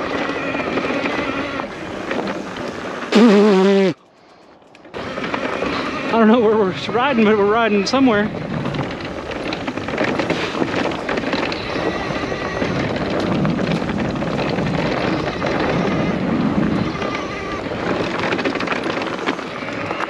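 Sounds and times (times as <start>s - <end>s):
wind buffeting microphone: 0.0s - 3.2s, 4.6s - 20.0s
bike tyres crunching on dirt: 0.0s - 20.0s.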